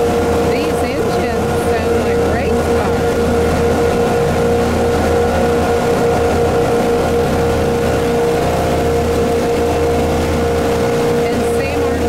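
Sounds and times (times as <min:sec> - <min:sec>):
boat engines droning: 0:00.0 - 0:12.0
wake churning behind boat: 0:00.0 - 0:12.0.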